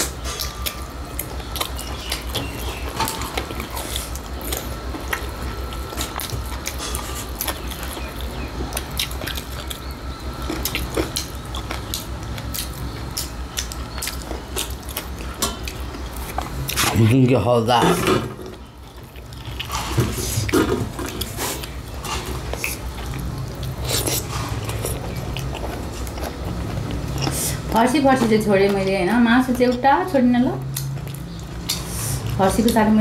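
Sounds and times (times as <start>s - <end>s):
chewing and mouth sounds: 0.0s - 17.2s, 18.4s - 27.8s, 30.6s - 32.9s
steady low hum: 0.0s - 33.0s.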